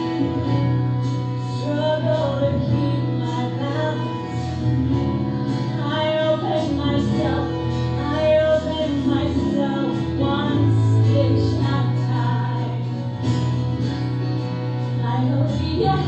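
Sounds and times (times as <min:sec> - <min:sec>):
live instrumental accompaniment: 0:00.0 - 0:16.0
woman singing a ballad: 0:00.0 - 0:16.0.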